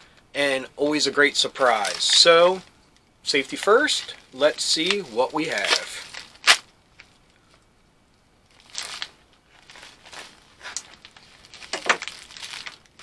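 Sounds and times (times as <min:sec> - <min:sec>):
plastic mailer crinkling: 0:01.0 - 0:02.7, 0:03.3 - 0:07.6, 0:08.5 - 0:13.0.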